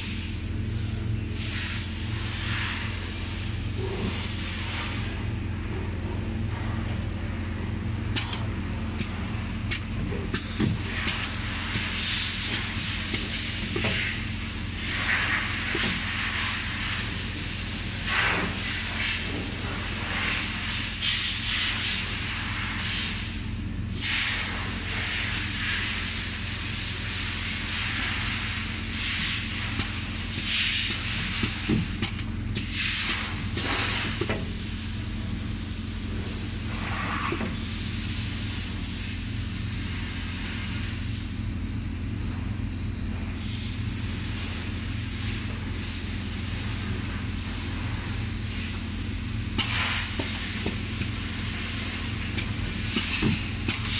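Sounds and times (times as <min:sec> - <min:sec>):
high machine whine: 0:00.0 - 0:53.9.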